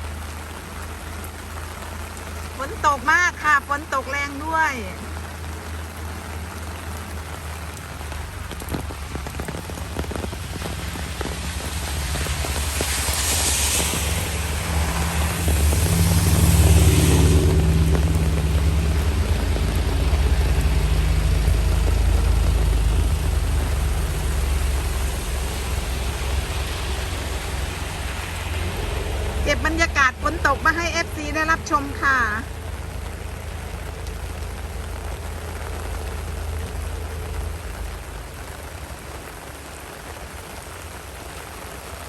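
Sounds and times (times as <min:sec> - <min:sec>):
heavy rain pouring: 0:00.0 - 0:42.0
low rumble: 0:05.2 - 0:39.9.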